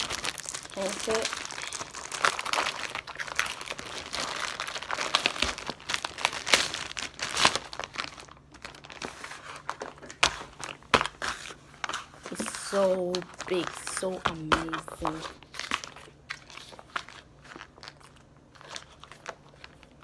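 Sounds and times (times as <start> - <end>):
plastic bags crinkling: 0.0 - 20.0.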